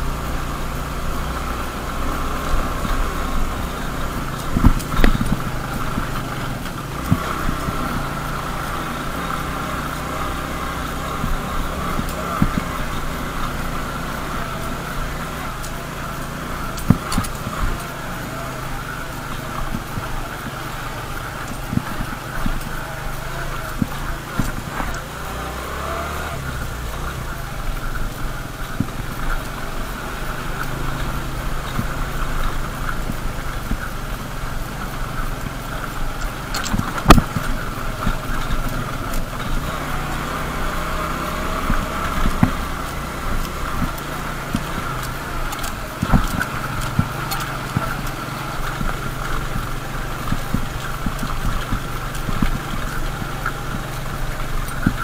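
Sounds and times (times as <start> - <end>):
motorcycle engine running: 0.0 - 55.0
rattle of knocks from bumps: 0.0 - 55.0.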